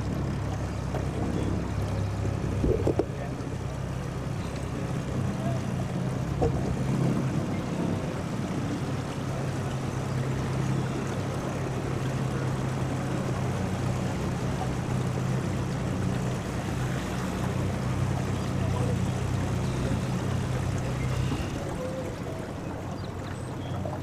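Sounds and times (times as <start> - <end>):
outboard motor running: 0.0 - 24.0
water wash: 0.0 - 24.0.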